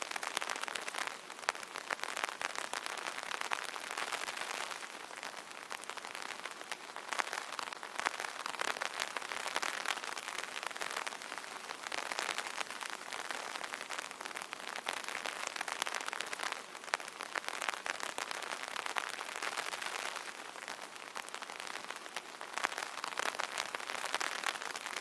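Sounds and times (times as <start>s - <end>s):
rain drumming on an umbrella: 0.0s - 25.0s.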